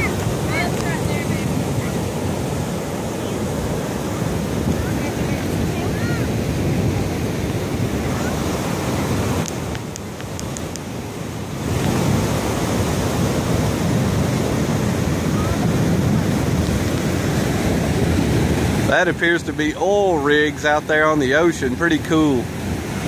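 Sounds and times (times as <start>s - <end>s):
wind buffeting microphone: 0.0s - 18.9s
surf breaking on beach: 0.0s - 23.0s.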